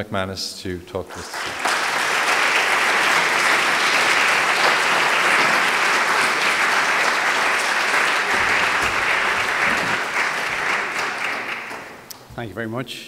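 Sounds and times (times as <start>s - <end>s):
audience applauding: 1.1s - 12.2s.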